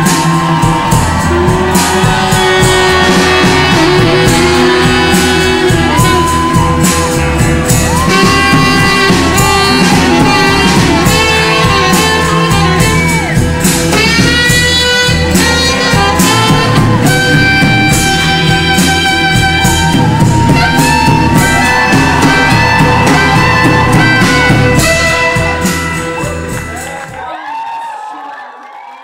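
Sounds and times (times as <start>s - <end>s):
loud music with steady beat: 0.0s - 27.1s.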